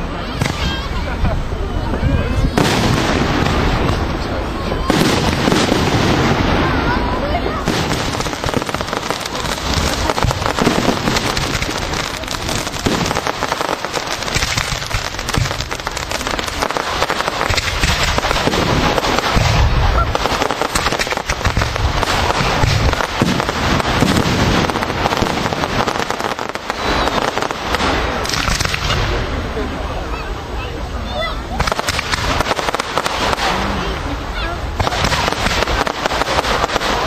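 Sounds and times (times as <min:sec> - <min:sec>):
fireworks crackling: 0:00.0 - 0:37.0
deep firework thuds: 0:02.4 - 0:29.5, 0:31.6 - 0:37.0.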